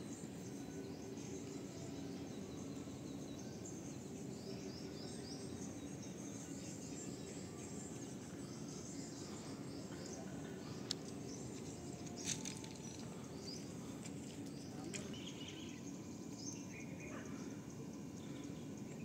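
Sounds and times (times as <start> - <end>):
bird chirps: 0.8 - 19.0.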